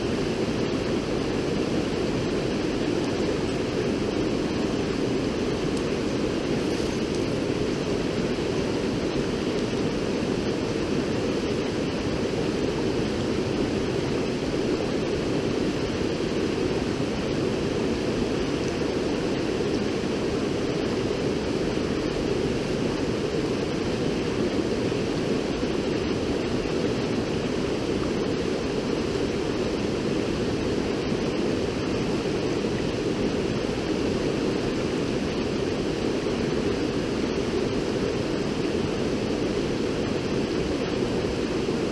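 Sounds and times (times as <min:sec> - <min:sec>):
river rushing: 0:00.0 - 0:41.9.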